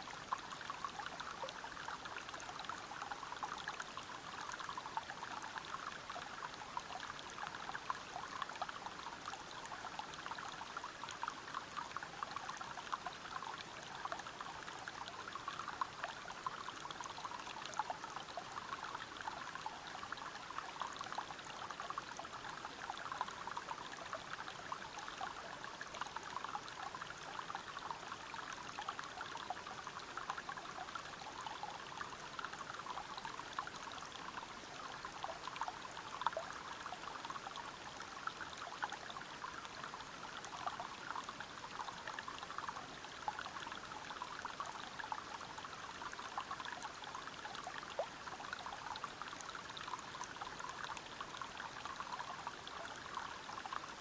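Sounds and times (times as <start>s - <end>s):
water flowing over rocks: 0.0s - 54.0s.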